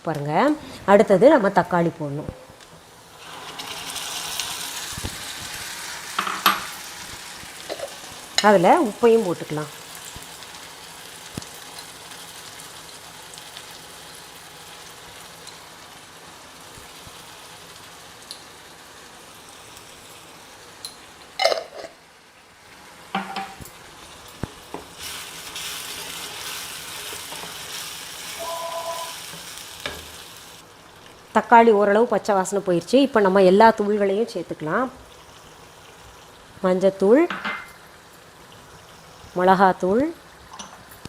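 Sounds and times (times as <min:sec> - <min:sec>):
onions and tomatoes sizzling: 0:00.0 - 0:41.0.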